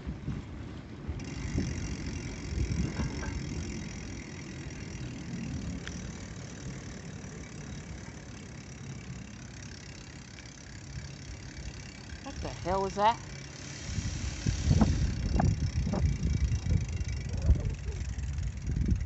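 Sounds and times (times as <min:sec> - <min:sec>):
wind buffeting microphone: 0:00.0 - 0:09.9, 0:10.7 - 0:19.0
bicycle rolling over brick paving: 0:00.0 - 0:19.0
low engine hum: 0:00.0 - 0:19.0.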